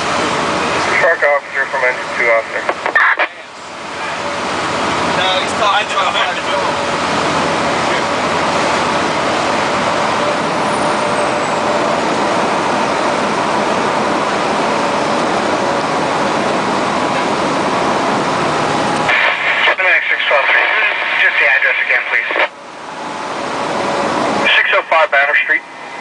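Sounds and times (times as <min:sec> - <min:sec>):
fire truck engine and road noise: 0:00.0 - 0:26.0.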